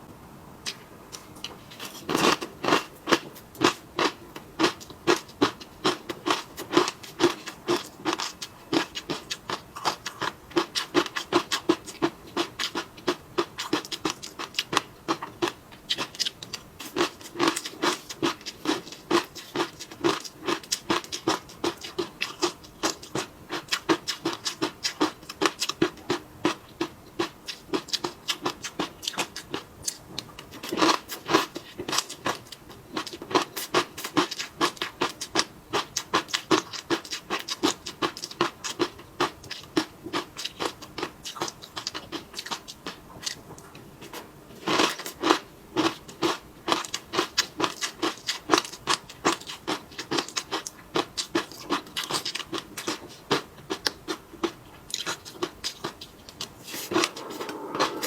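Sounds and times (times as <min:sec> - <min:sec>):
person chewing with wet clicks: 0:00.6 - 0:58.0.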